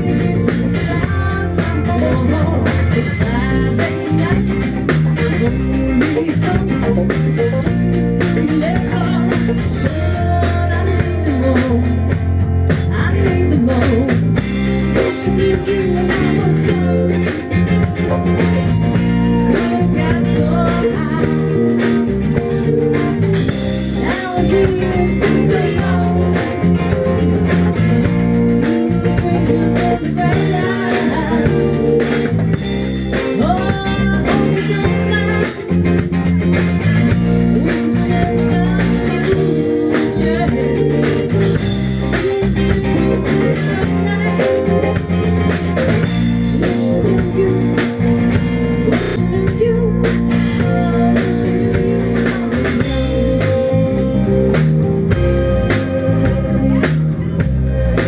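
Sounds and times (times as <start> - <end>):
person singing: 0.0 - 23.2, 23.9 - 32.4, 33.1 - 36.1, 37.2 - 48.1, 48.7 - 56.8
drum kit: 0.0 - 58.0
electric bass: 0.0 - 58.0
electric guitar: 0.0 - 58.0.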